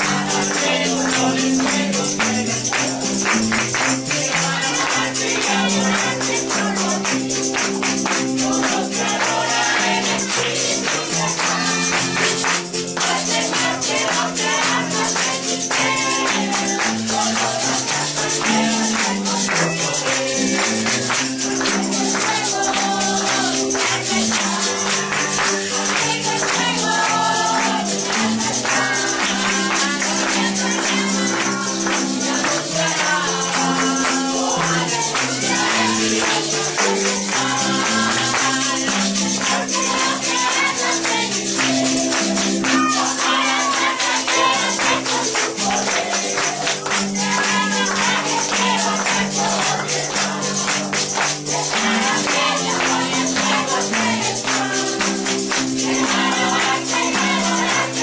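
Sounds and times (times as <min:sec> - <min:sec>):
tambourine shaken in rhythm: 0:00.0 - 0:58.0
voices singing: 0:00.0 - 0:58.0.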